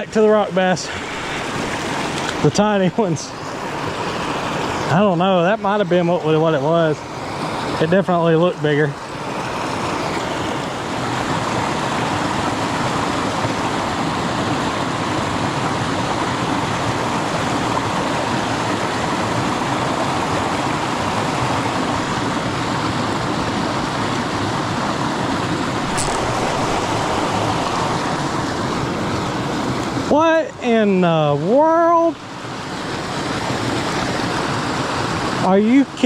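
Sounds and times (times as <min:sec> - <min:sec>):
creek water running over rocks: 0:00.0 - 0:36.0.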